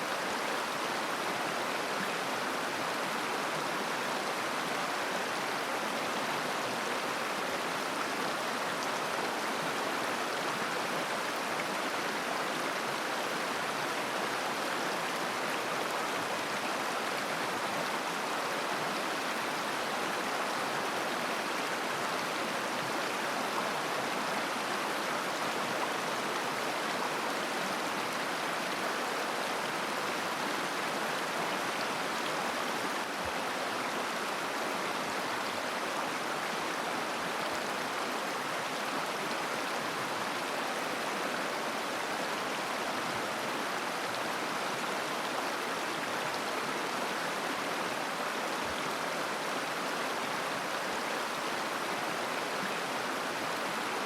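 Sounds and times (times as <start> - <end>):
river water babbling over stones: 0.0 - 54.0.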